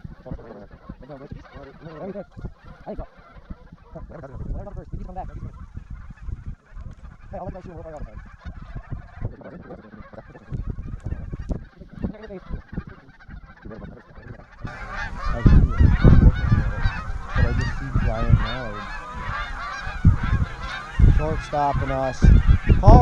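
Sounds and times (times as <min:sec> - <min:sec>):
geese honking: 0:00.0 - 0:23.0
wind rumbling on microphone: 0:00.0 - 0:23.0.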